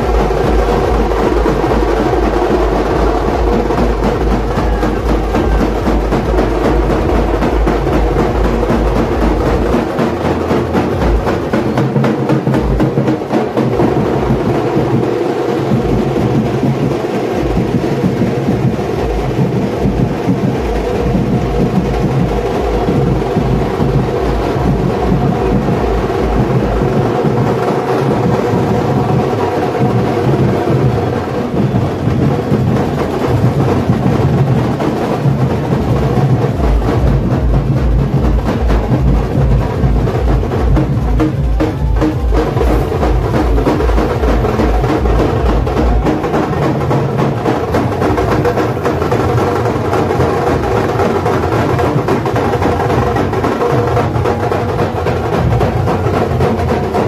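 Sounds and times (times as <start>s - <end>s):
deep bass beat: 0.0s - 57.0s
loud drumming with music: 0.0s - 57.0s.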